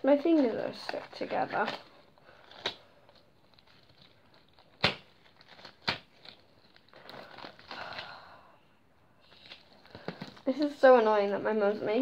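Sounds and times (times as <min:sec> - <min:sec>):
disposable gloves crinkling: 0:00.0 - 0:08.4, 0:09.2 - 0:12.0.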